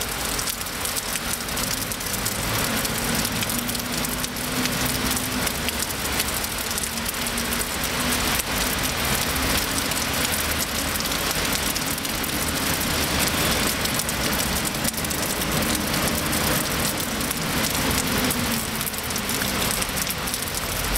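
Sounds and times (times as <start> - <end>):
faint traffic hum: 0.0 - 20.9
rain on stone paving: 0.0 - 20.9.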